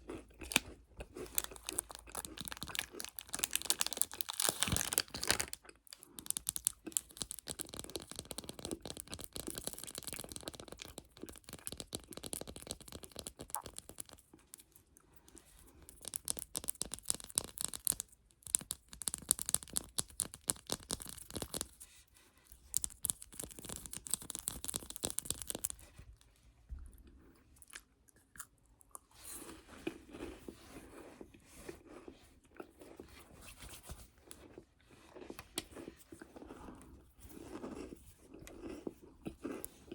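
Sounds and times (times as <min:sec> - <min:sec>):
chocolate crunching and chewing: 0:00.0 - 0:21.8, 0:22.5 - 0:25.9, 0:26.8 - 0:39.9.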